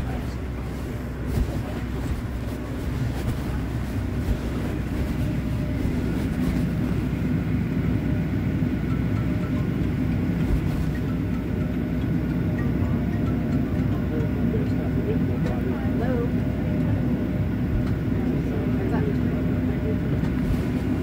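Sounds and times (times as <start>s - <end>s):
airliner cabin hum: 0.0s - 21.0s.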